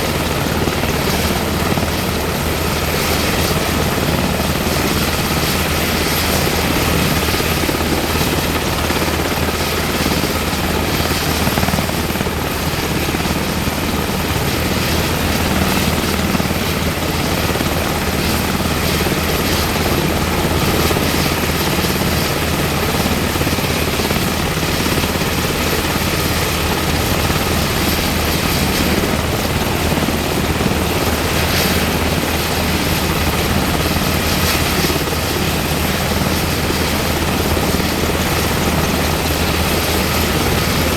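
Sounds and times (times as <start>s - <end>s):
helicopter running: 0.0s - 40.9s.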